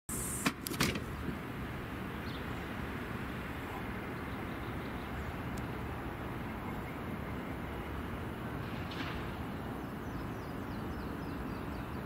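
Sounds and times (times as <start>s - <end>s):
outdoor background rumble and hiss: 0.1s - 12.0s.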